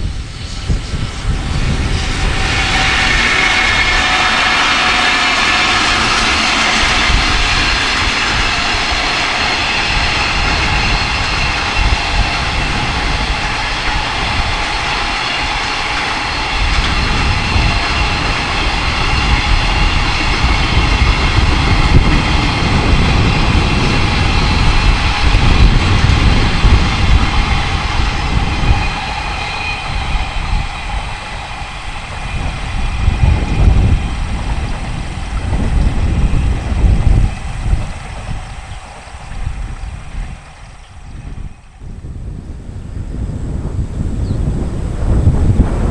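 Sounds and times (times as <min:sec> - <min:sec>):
freight train rolling past: 0:00.0 - 0:45.9
wind buffeting microphone: 0:00.0 - 0:45.9.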